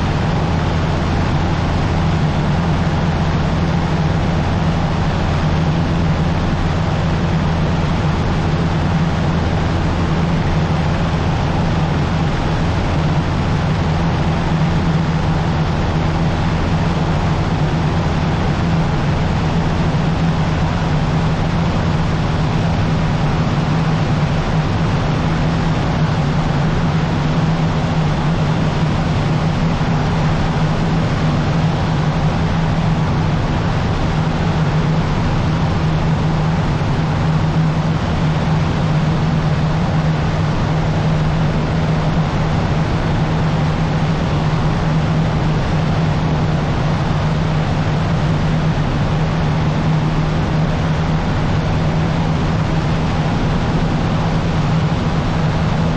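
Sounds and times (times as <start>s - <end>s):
airplane engine and propeller droning: 0.0s - 55.9s.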